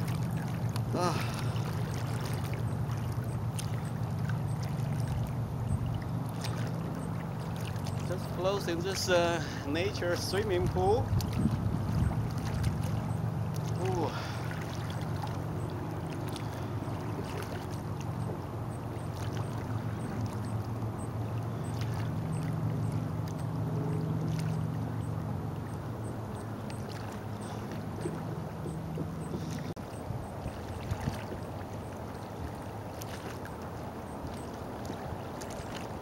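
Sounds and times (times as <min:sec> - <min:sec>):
small splashes: 0:00.0 - 0:36.0
steady low rumble: 0:00.0 - 0:36.0
water sloshing and lapping: 0:00.0 - 0:36.0.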